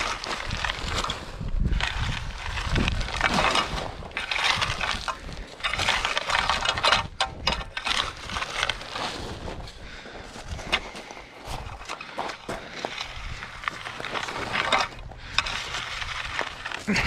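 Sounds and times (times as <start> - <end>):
rake scraping through gravel: 0.0 - 17.0.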